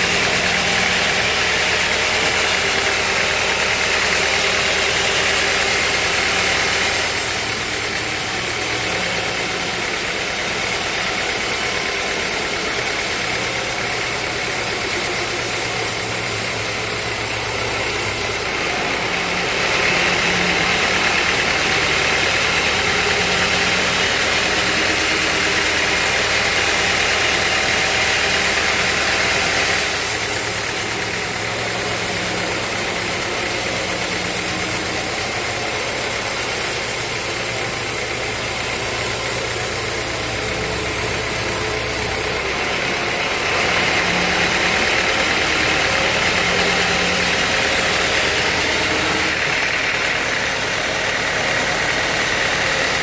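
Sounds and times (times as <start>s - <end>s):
sawmill machinery droning: 0.0s - 53.0s.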